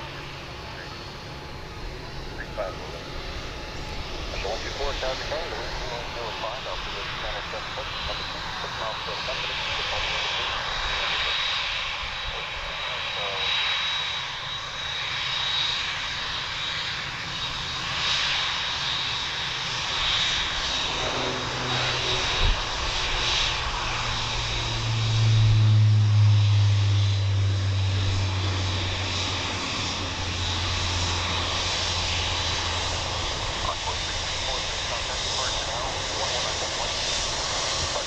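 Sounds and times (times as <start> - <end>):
deep jet drone: 0.0 - 38.0
jet engines whining: 0.0 - 38.0.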